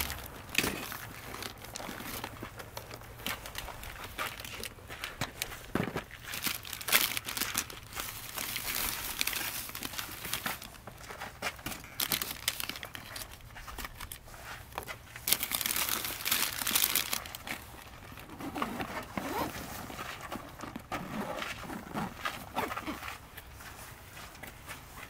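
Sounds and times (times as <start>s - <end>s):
crinkling handling noise: 0.0s - 25.0s.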